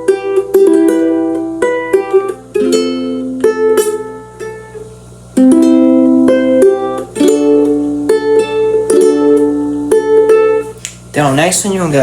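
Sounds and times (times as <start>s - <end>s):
ukulele strumming chords: 0.0s - 12.0s.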